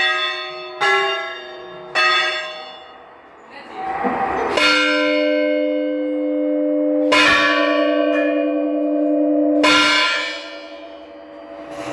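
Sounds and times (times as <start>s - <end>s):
church bell ringing: 0.0s - 3.3s, 4.5s - 11.9s.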